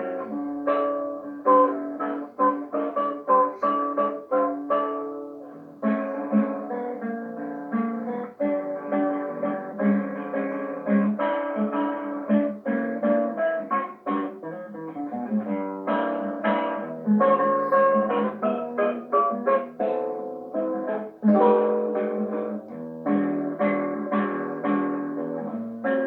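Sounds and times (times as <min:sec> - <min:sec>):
acoustic guitar bossa nova: 0:00.0 - 0:26.0.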